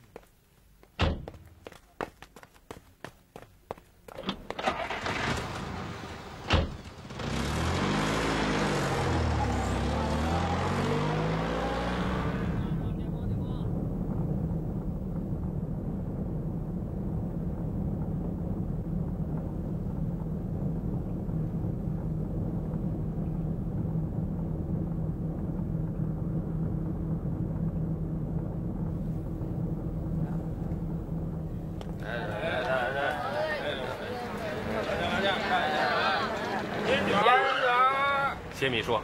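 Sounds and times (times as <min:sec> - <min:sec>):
car engine and road rumble: 0:04.1 - 0:39.0.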